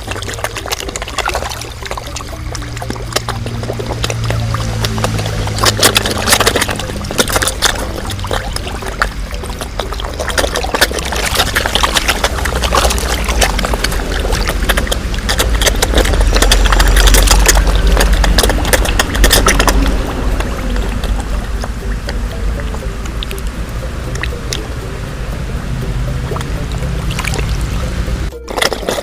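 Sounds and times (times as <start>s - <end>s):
fish splashing in water: 0.0s - 29.0s
low rumble: 1.3s - 28.4s.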